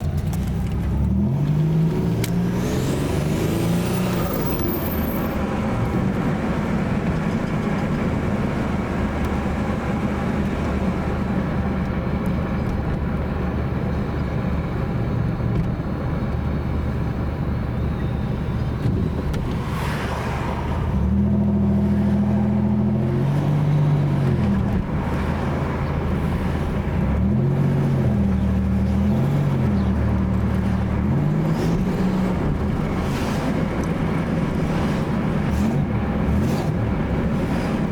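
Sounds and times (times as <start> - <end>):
car engine revving: 0.2 - 12.2, 19.0 - 37.9.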